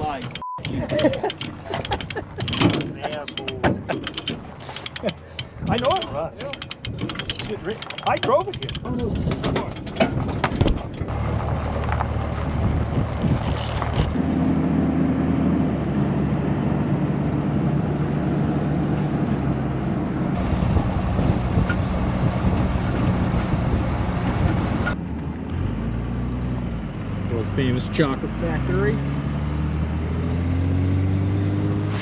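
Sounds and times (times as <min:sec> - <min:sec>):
road and wind noise: 0:00.0 - 0:32.0
vehicle engine hum: 0:00.0 - 0:32.0.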